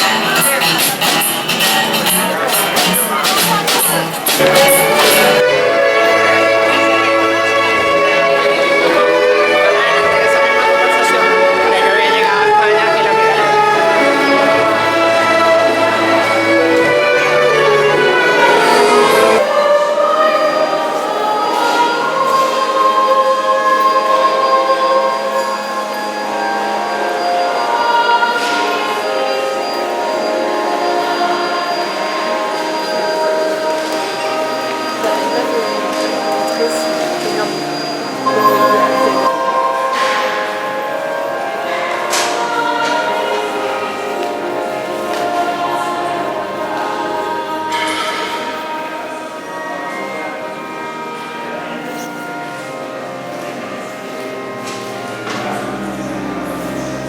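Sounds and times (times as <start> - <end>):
choir singing held notes: 0.0 - 57.0.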